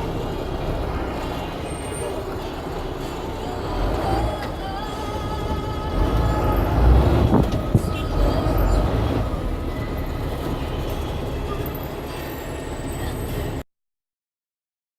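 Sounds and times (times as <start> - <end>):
bus engine low rumble: 0.0 - 13.6.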